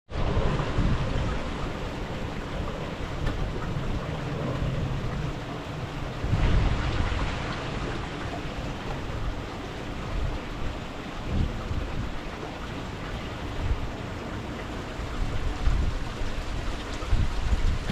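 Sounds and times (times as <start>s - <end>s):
wind buffeting microphone: 0.1s - 17.9s.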